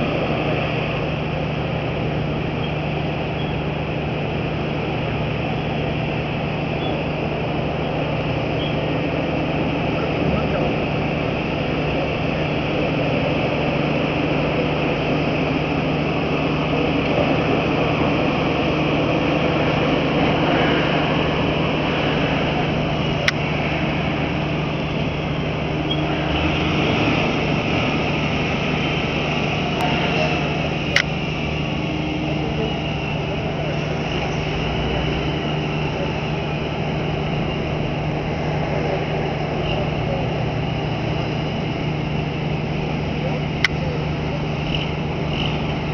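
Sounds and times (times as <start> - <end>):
diesel truck engine drone: 0.0 - 45.9
low hum: 0.0 - 45.9.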